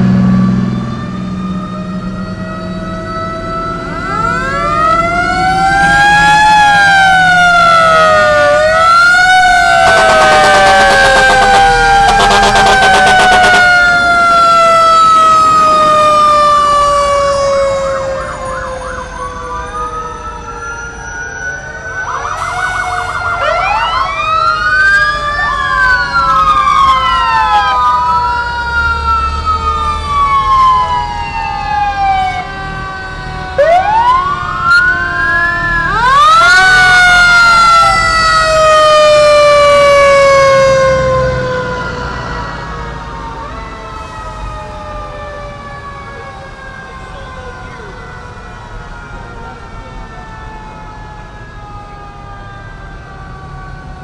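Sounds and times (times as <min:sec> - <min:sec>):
fire engine sirens wailing: 0:00.0 - 0:54.0.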